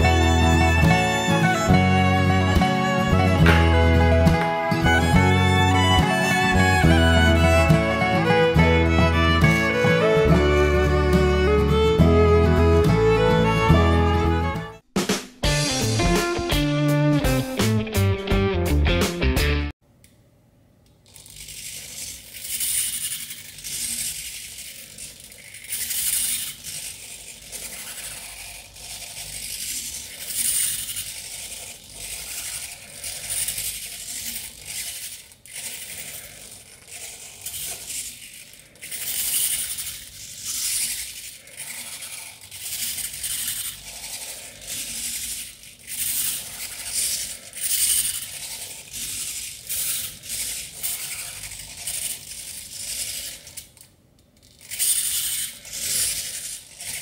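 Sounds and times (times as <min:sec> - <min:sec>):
servo motors whirring: 0:00.0 - 0:14.8, 0:21.3 - 0:53.8, 0:54.5 - 0:57.0.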